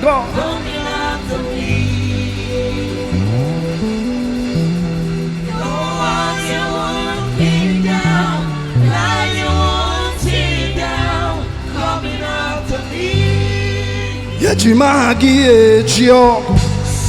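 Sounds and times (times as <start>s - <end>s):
gospel worship music: 0.0s - 17.0s
people singing: 0.0s - 17.0s
sustained bass line: 0.0s - 17.0s.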